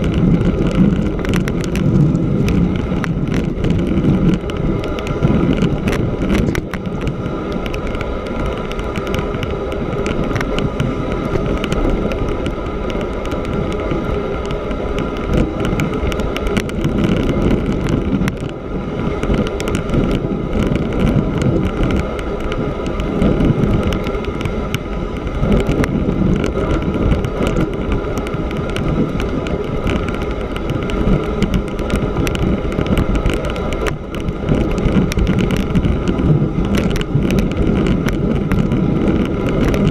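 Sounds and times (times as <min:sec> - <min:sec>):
bicycle tyres rolling on snow: 0:00.0 - 0:39.9
wind noise on microphone: 0:00.0 - 0:39.9.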